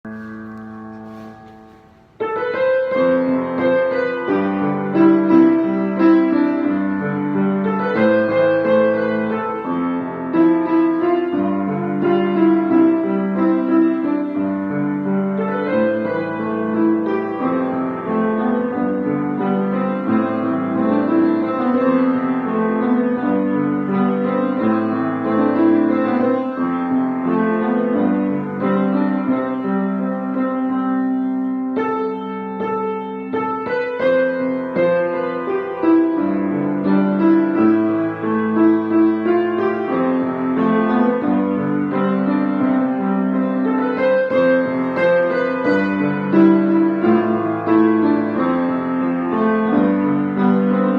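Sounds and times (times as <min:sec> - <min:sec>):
piano melody over chords: 0:00.0 - 0:50.9.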